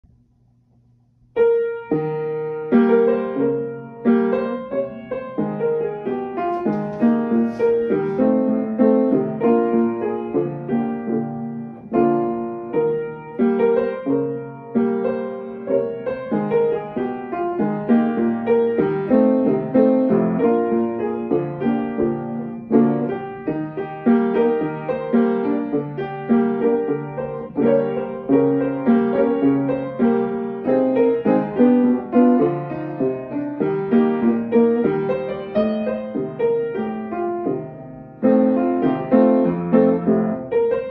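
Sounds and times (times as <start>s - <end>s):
upright piano chords and melody: 1.2s - 40.9s.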